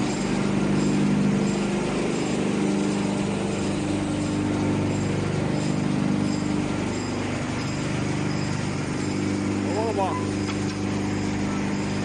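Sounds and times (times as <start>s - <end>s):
machinery motor drone: 0.0s - 12.0s.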